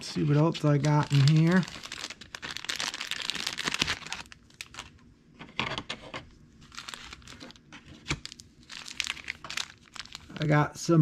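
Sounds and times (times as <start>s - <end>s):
plastic bag crinkling: 0.0s - 5.0s, 6.6s - 10.5s.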